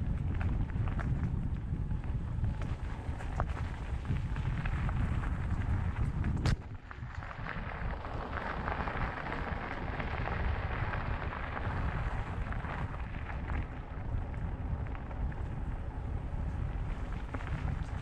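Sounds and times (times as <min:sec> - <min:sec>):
bike tyres crackling on gravel: 0:00.0 - 0:18.0
wind buffeting microphone: 0:00.0 - 0:18.0.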